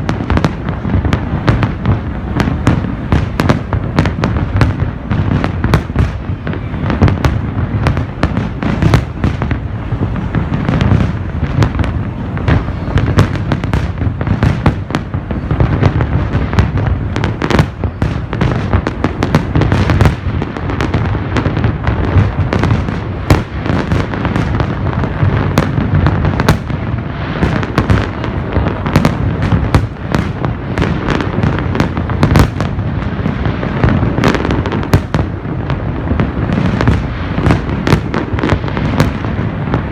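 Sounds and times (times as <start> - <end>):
low rumble and crackle: 0.0 - 39.9.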